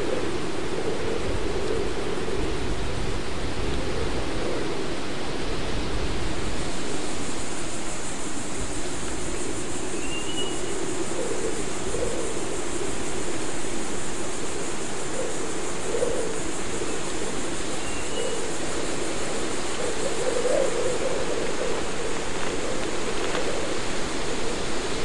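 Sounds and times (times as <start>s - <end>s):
hurricane wind howling: 0.0s - 25.0s.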